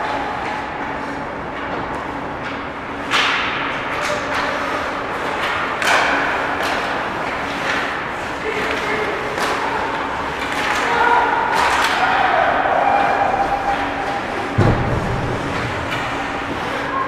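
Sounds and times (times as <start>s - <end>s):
hockey sticks and puck clacking: 0.0s - 17.0s
steady hum: 0.0s - 17.0s.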